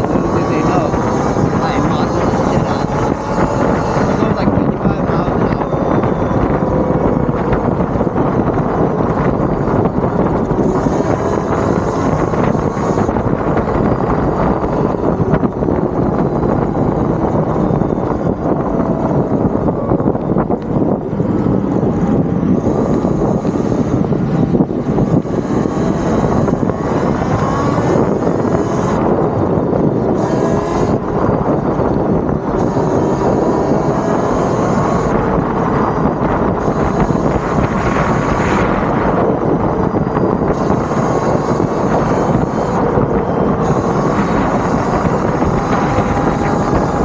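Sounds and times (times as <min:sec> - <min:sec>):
electric motor whine: 0:00.0 - 0:47.0
wind buffeting the microphone: 0:00.0 - 0:47.0.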